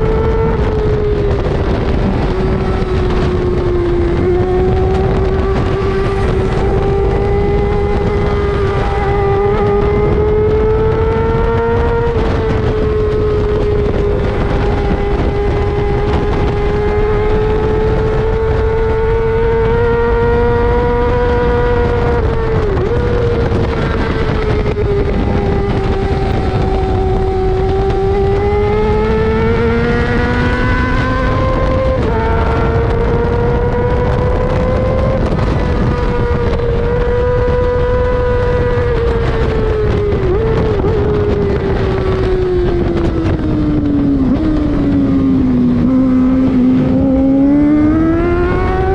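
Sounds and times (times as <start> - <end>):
motorcycle engine revving high: 0.0 - 48.9
rush of noise: 0.0 - 48.9.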